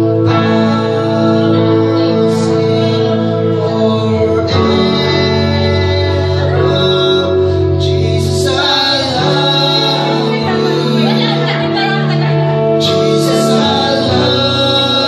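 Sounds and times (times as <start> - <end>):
electric guitars playing chords: 0.0 - 15.0
voices singing: 0.0 - 15.0.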